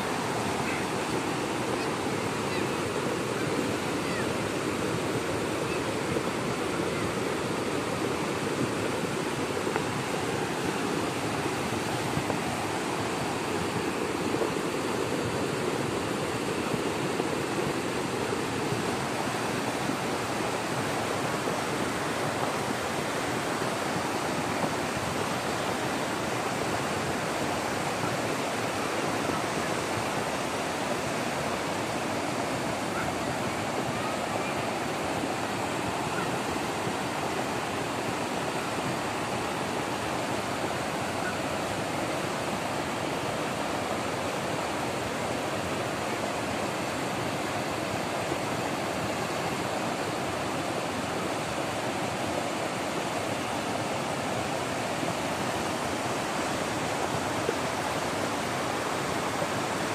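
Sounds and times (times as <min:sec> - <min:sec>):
flood water rushing: 0:00.0 - 0:59.9.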